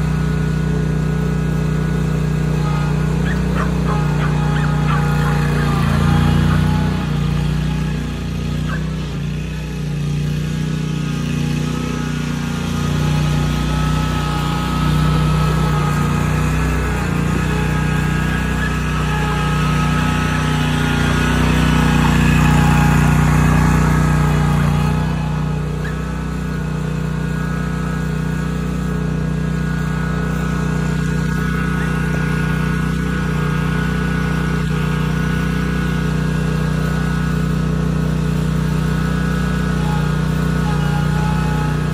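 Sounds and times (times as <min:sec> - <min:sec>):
mower engine running: 0:00.0 - 0:41.9.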